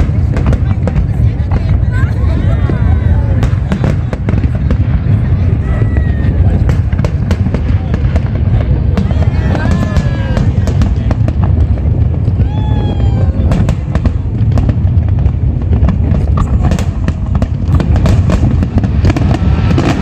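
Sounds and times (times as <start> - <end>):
fireworks booming: 0.0 - 20.0
fireworks cracking and banging: 0.0 - 20.0.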